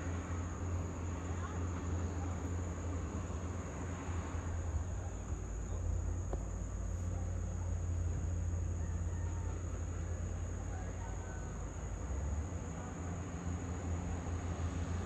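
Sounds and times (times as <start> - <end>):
distant excavator engine drone: 0.0 - 15.0.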